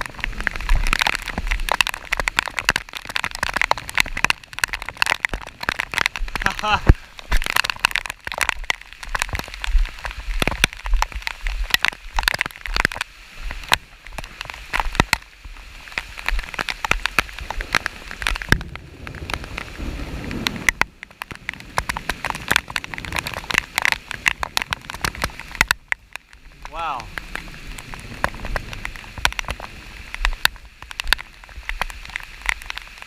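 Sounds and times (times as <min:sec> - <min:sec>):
rain falling: 0:00.0 - 0:33.0
raindrops ticking near microphone: 0:00.0 - 0:33.0
wind rumble on microphone: 0:00.0 - 0:33.0.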